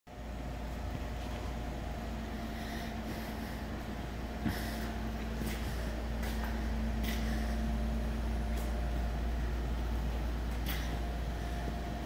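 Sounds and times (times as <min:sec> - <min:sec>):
machine hum with low rumble: 0:00.1 - 0:12.0.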